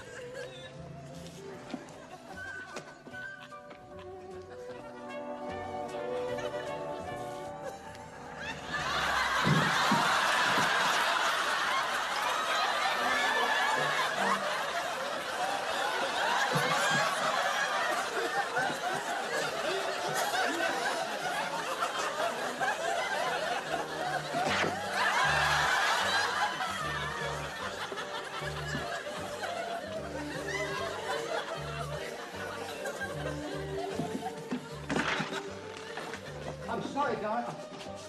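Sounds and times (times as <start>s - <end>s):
audience laughter: 0.0s - 36.7s.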